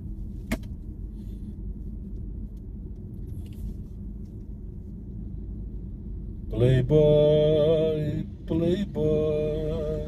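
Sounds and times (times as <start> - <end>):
car road rumble: 0.0 - 10.0.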